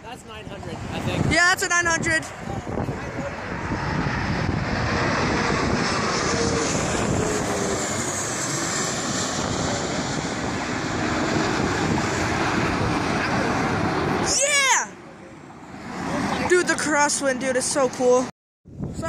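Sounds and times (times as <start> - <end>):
jet airliner engines roaring: 0.0 - 19.0.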